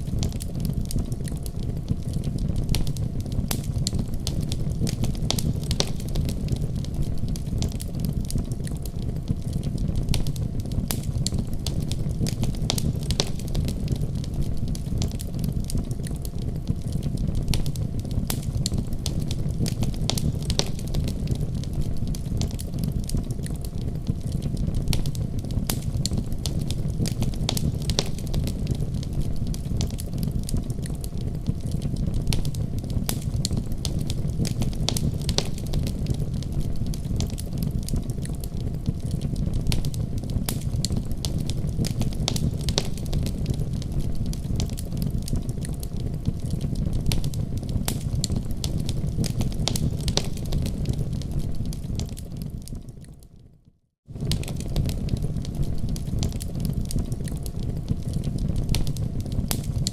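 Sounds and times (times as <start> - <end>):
fireplace crackling: 0.0 - 53.2, 54.1 - 59.9.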